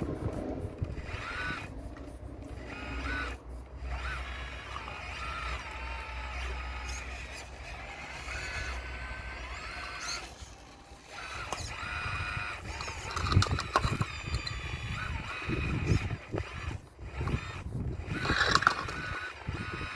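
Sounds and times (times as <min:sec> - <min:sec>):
model excavator motors whining: 0:00.0 - 0:19.9.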